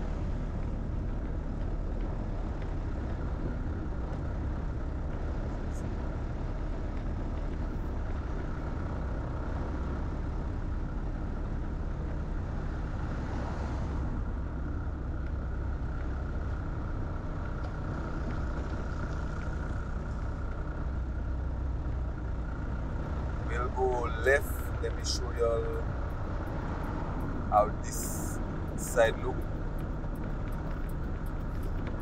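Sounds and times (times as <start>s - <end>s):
vehicle road noise: 0.0s - 32.0s.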